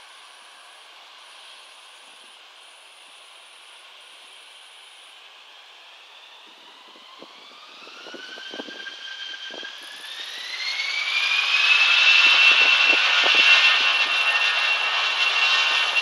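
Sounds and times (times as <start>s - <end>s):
jet engines spooling up: 0.0s - 16.0s.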